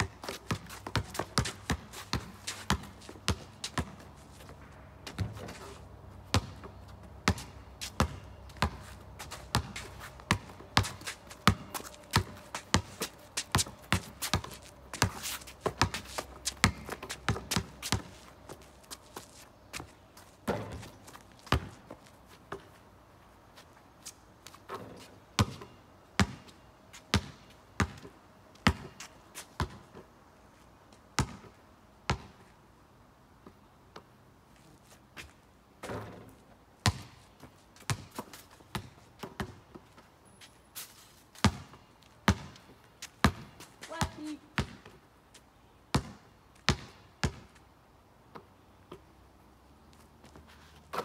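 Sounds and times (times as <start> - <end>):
basketball bouncing on pavement: 0.0 - 22.8, 24.5 - 30.1, 31.2 - 32.5, 35.2 - 40.1, 41.3 - 45.0, 45.9 - 47.6, 50.2 - 51.0.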